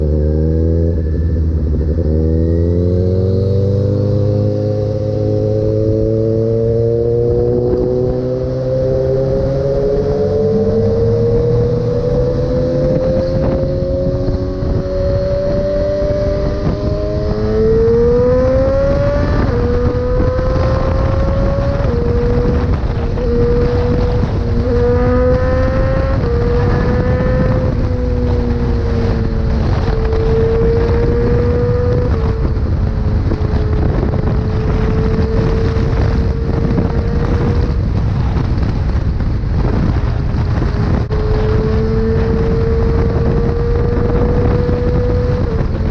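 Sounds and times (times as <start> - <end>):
motorcycle engine revving through gears: 0.0 - 45.9
wind rush on microphone: 0.0 - 45.9.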